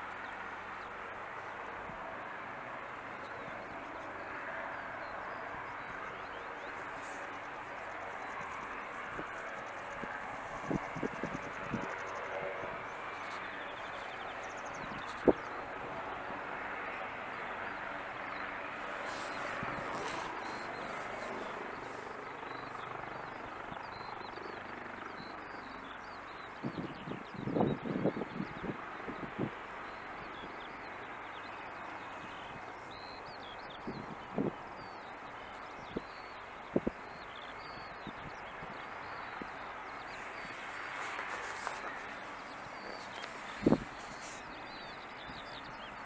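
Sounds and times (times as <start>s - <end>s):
helicopter running on the ground: 0.0s - 46.0s.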